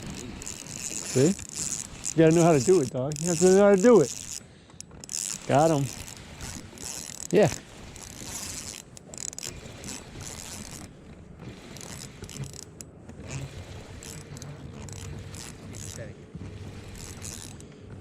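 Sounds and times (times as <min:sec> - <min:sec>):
fishing reel ratcheting: 0:00.0 - 0:17.7.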